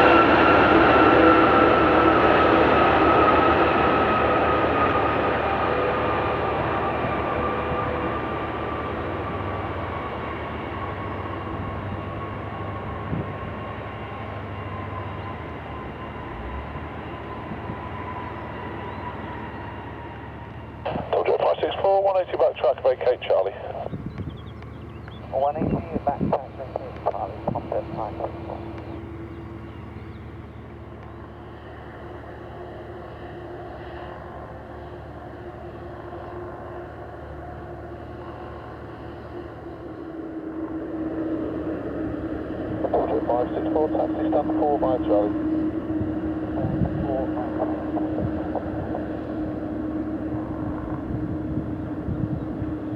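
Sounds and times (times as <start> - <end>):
jet engines whining: 0.0 - 52.9
low rumble of rolling aircraft: 0.0 - 52.9.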